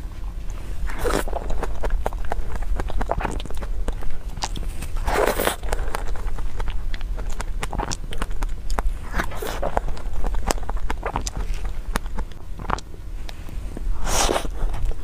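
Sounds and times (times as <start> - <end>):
wet mouth eating sounds: 0.0 - 15.0.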